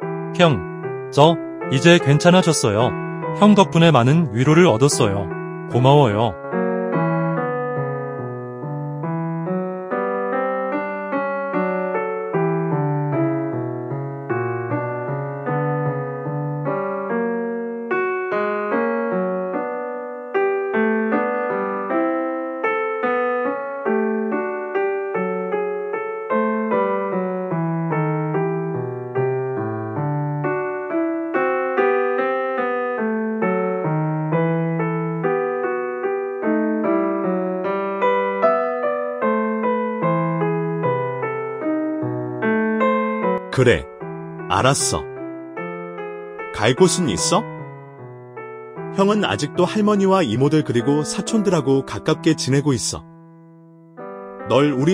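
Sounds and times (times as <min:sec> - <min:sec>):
solo piano melody: 0:00.0 - 0:54.9.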